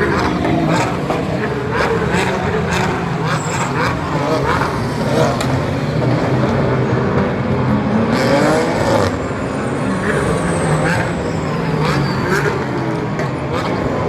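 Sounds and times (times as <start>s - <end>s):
engine rising in pitch: 0.0s - 14.0s
racing car engines droning: 0.0s - 14.0s.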